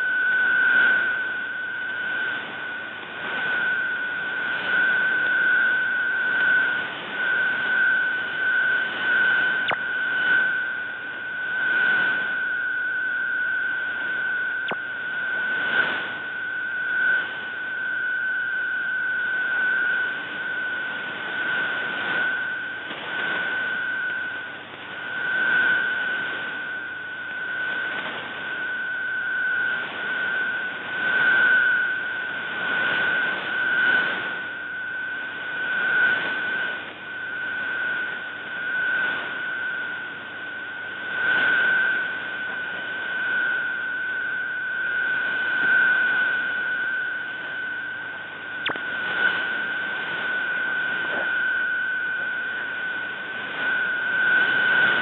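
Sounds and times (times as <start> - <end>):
radio static hiss: 0.0 - 37.0, 41.4 - 55.0.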